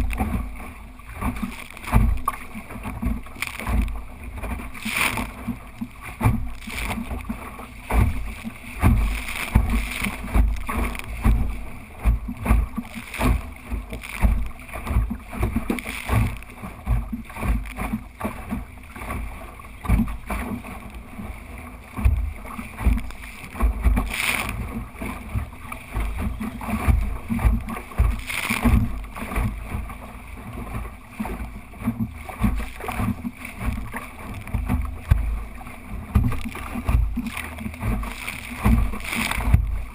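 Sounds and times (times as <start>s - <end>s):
water washing along hull: 0.0s - 39.9s
wind rumbling on microphone: 0.0s - 39.9s.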